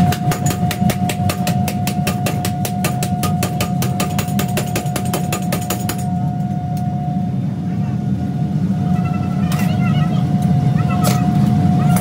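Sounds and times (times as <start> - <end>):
constant machine whine: 0.0 - 12.0
metalworking machinery humming: 0.0 - 12.0.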